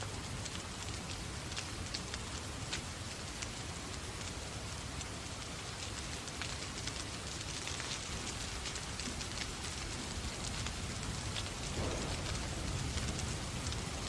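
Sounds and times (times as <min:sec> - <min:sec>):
fireplace fire crackling: 0:00.0 - 0:14.0
rain hissing: 0:00.0 - 0:14.0.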